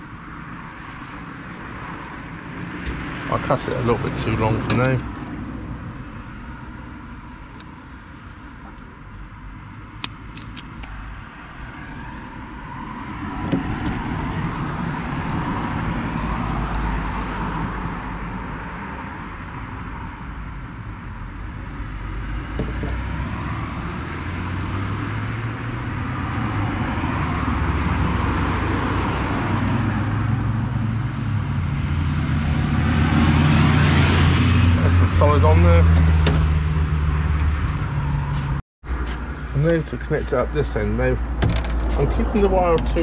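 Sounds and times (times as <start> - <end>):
road traffic passing: 0.0 - 43.0.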